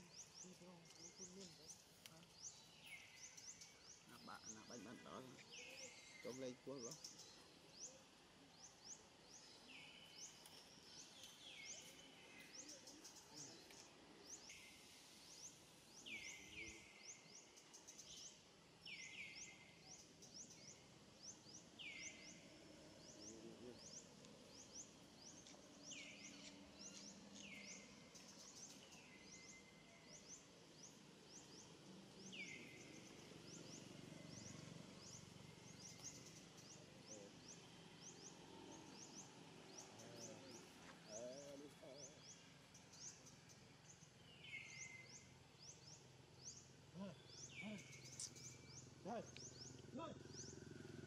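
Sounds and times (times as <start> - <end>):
faint birds chirping: 0.0 - 51.0.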